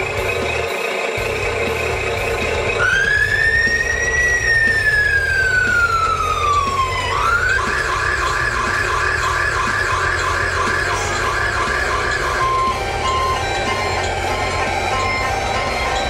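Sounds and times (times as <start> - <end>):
low engine hum: 0.0 - 16.0
toy fire truck siren: 2.4 - 16.0.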